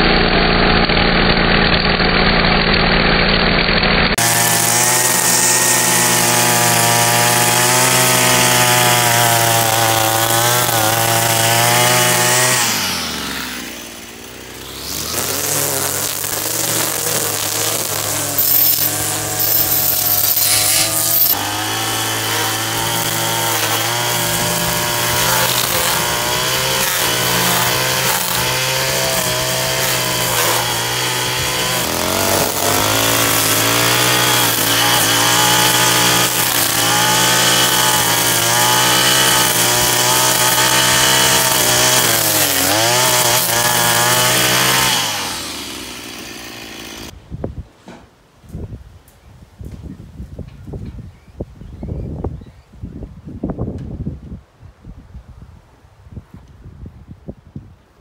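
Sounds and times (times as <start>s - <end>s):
string trimmer cutting grass: 0.0s - 47.2s.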